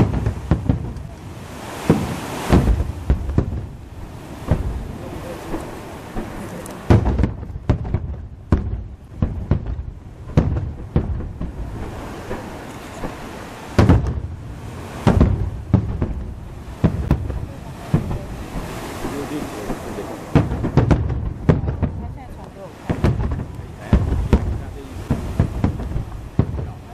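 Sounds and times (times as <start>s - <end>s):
fireworks booms and cracks: 0.0s - 26.9s.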